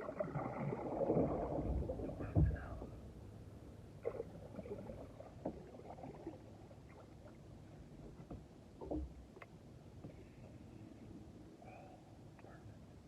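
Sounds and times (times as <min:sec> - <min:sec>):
faint water lapping: 0:00.0 - 0:03.2, 0:03.9 - 0:12.6.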